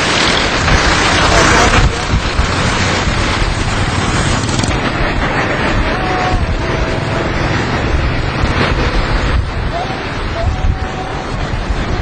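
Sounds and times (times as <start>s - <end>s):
flood water rushing: 0.0s - 12.0s
wind buffeting microphone: 0.0s - 12.0s.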